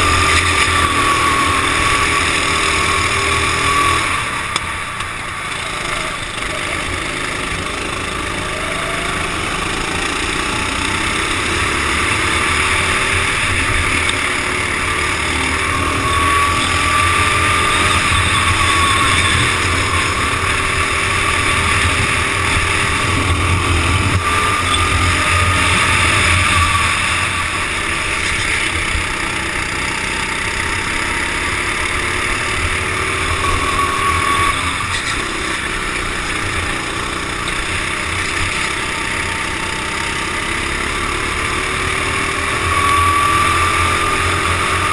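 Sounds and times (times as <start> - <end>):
go-kart engine racing: 0.0 - 44.9.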